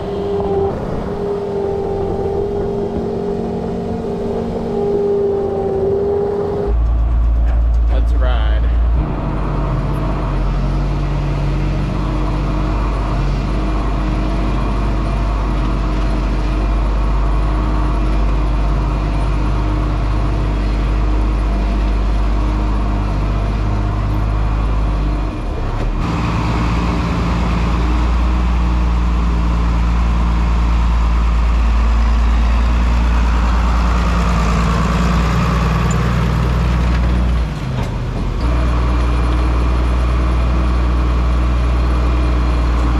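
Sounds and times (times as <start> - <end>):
farm machine engine humming: 0.0 - 42.9.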